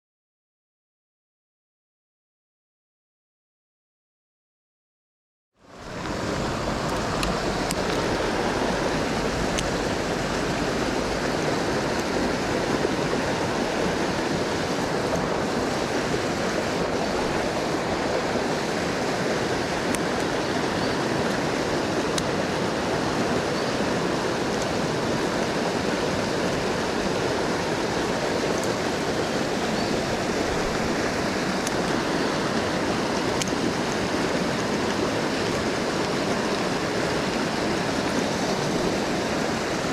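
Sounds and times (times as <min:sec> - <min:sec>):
stream rushing over rocks: 0:05.6 - 0:39.9.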